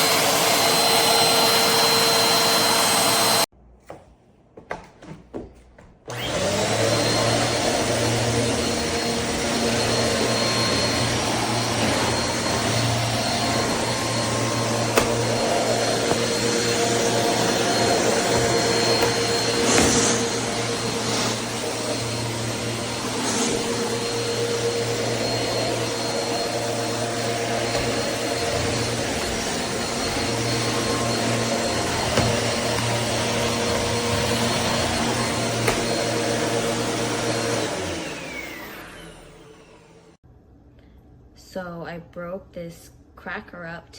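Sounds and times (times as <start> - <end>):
vacuum cleaner motor whine: 0.0 - 3.5, 6.1 - 40.2.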